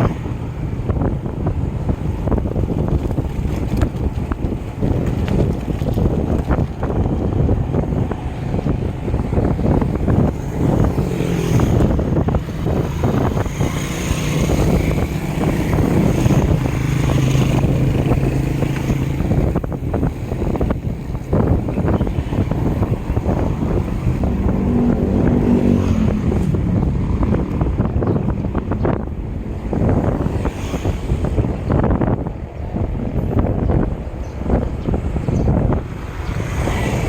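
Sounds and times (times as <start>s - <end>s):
passing vehicle engine hum: 0.0s - 37.0s
wind buffeting microphone: 0.0s - 37.0s.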